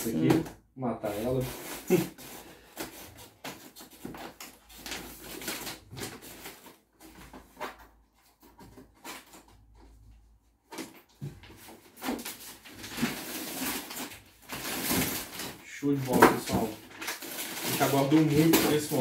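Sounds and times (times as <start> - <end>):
cardboard rustling and scraping: 1.0 - 19.0.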